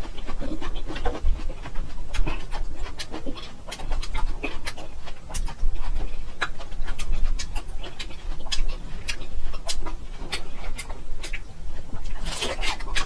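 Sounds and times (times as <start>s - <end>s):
crisp crunchy chewing: 0.0s - 13.0s
low steady hum: 0.0s - 13.0s.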